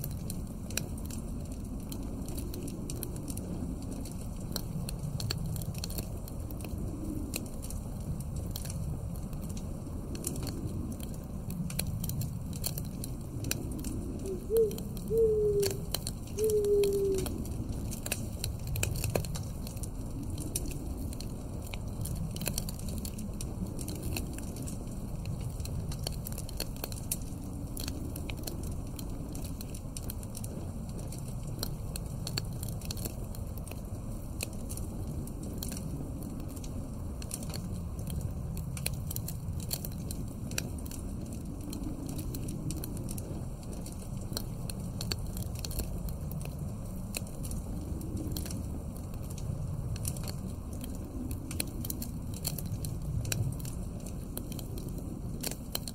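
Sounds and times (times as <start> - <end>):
log fire crackling: 0.0 - 55.9
low wind: 0.0 - 55.9.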